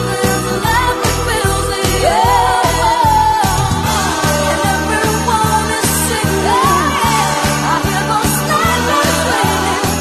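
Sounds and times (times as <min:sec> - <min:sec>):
christmas music with sleigh bells: 0:00.0 - 0:10.0.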